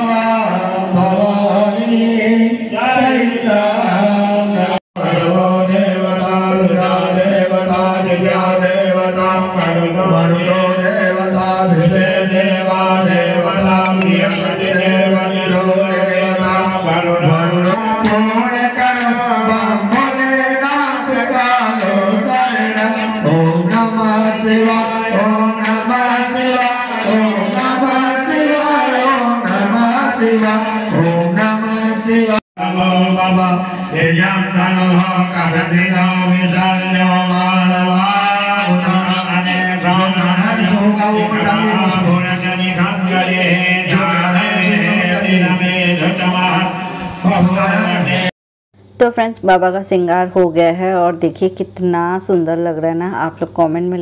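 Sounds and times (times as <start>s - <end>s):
men chanting into microphones: 0.0s - 48.3s.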